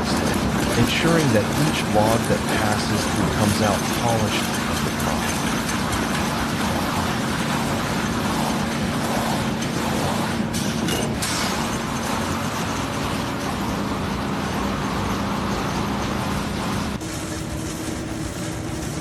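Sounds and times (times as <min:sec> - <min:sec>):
planer machine humming and rushing: 0:00.0 - 0:19.0.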